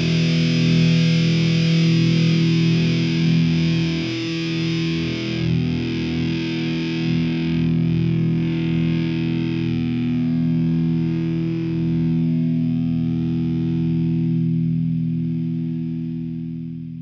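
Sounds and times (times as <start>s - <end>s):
distorted electric guitar chord: 0.0s - 17.0s.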